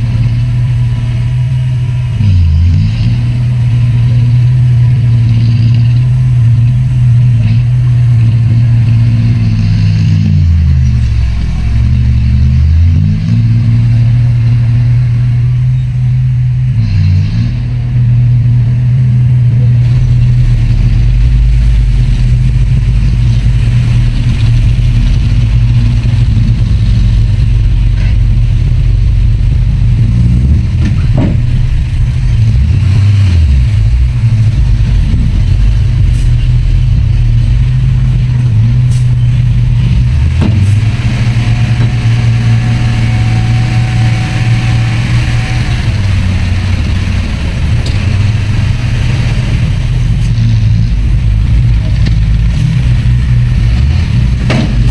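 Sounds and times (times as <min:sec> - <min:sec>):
heavy diesel engine droning: 0:00.0 - 0:54.9.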